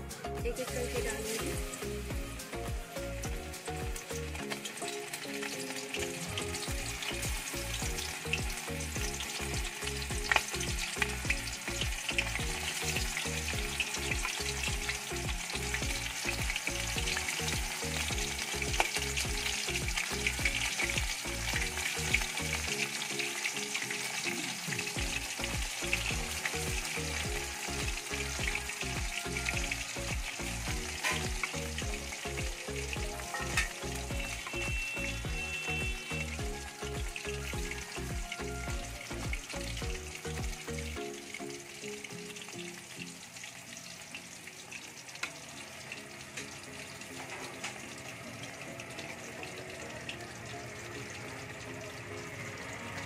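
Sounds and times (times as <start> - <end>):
fish sizzling in hot oil: 0.0 - 53.0.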